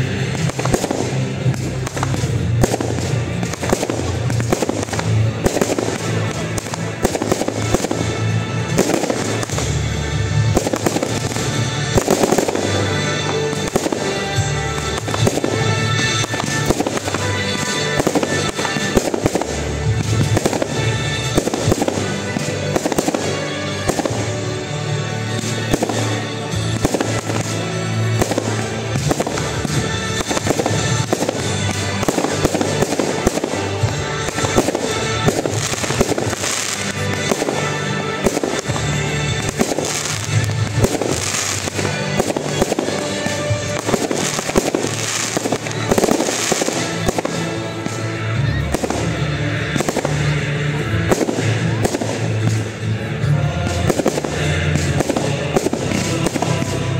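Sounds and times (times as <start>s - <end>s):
fireworks bursting and crackling: 0.0s - 56.9s
music playing: 0.0s - 56.9s.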